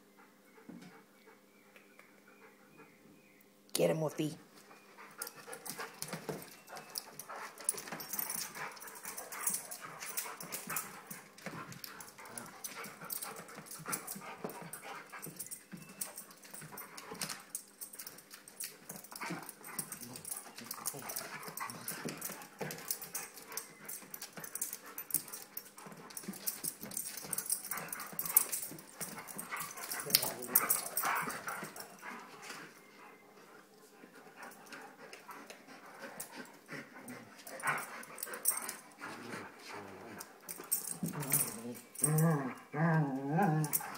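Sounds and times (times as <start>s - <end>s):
paws and claws scuffling: 4.6s - 42.1s
dogs vocalizing: 5.1s - 43.9s.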